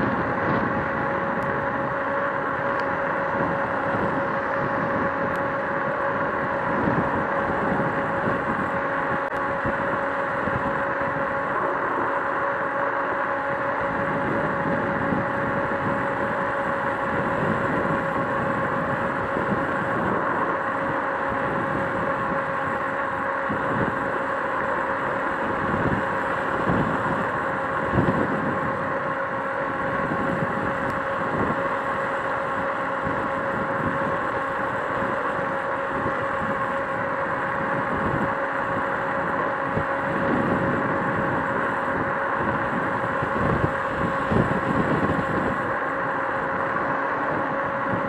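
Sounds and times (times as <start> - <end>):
electric motor whine: 0.0 - 48.0
wind buffeting microphone: 0.0 - 48.0.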